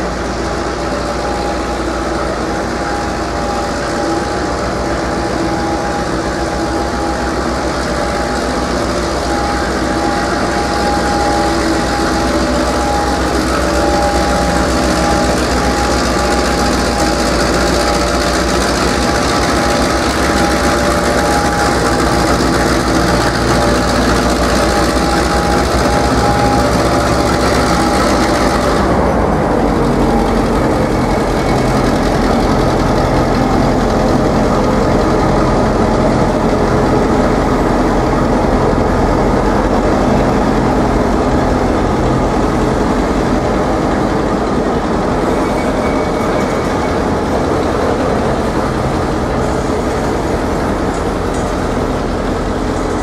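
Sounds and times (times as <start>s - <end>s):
diesel locomotive engine: 0.0s - 53.0s
steady ringing tone: 0.0s - 53.0s.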